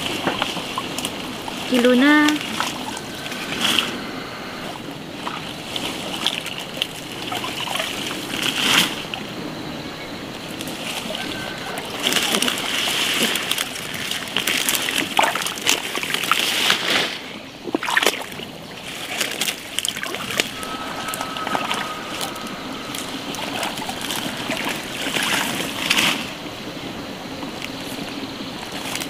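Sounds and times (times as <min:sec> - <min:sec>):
water splashing and sloshing: 0:00.0 - 0:09.5, 0:10.2 - 0:29.0.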